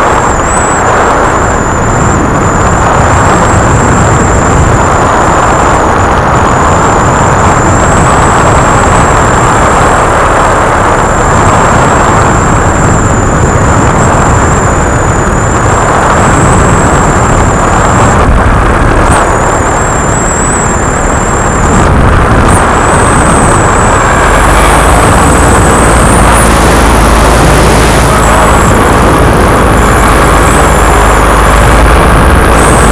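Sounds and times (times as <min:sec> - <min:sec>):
paramotor engine and propeller: 0:00.0 - 0:32.9
thin high whine: 0:00.0 - 0:32.9.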